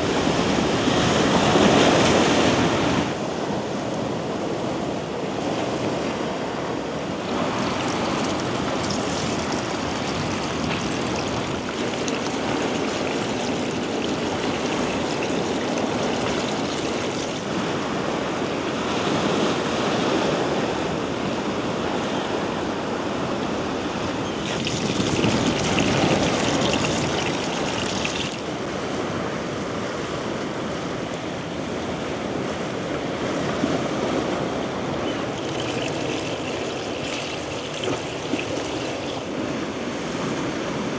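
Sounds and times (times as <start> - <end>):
waves washing on shore: 0.0 - 40.9.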